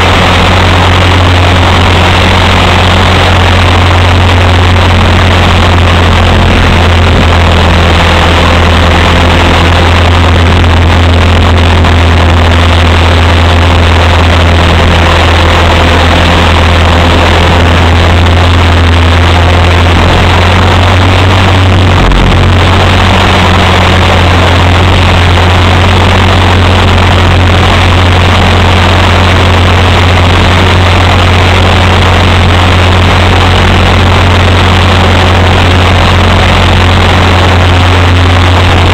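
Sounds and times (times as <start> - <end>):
rc helicopter rotor drone: 0.0 - 38.9.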